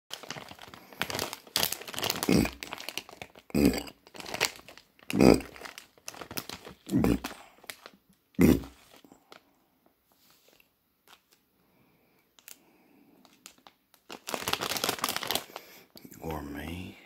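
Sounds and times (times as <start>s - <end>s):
plastic wrapper crinkling: 0.1s - 9.5s, 10.1s - 11.4s, 12.4s - 16.0s.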